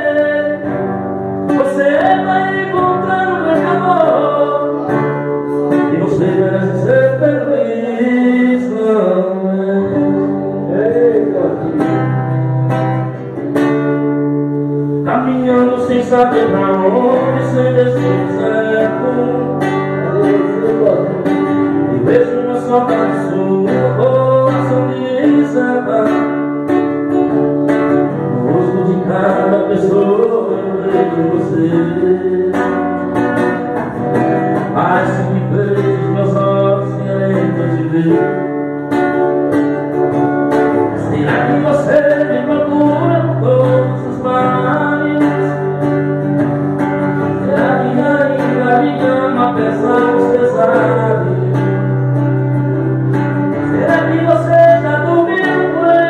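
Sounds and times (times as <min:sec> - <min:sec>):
man singing: 0:00.0 - 0:14.0, 0:14.7 - 0:56.0
acoustic guitar strumming: 0:00.0 - 0:56.0.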